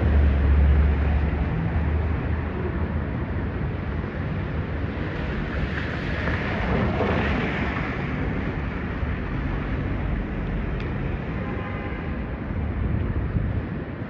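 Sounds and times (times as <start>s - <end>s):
passing traffic: 0.0s - 14.0s.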